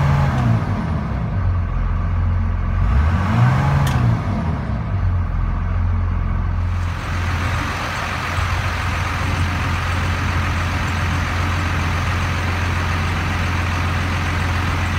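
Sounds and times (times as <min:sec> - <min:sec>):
diesel engine idling: 0:00.0 - 0:03.1, 0:04.4 - 0:14.9.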